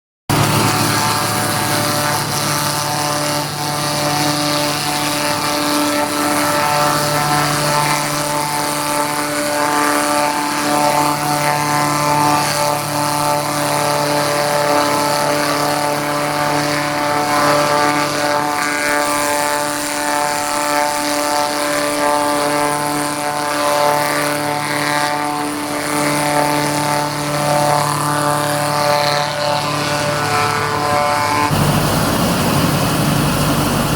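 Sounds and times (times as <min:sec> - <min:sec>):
grinding machine droning: 0:00.3 - 0:33.9.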